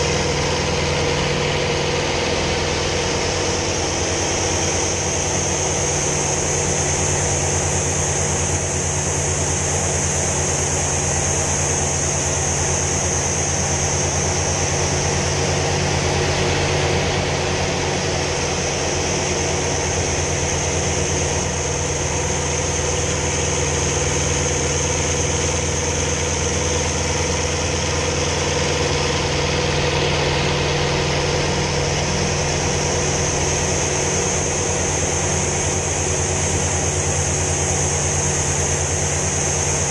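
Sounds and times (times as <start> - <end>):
piston engine running in flight: 0.0 - 39.9.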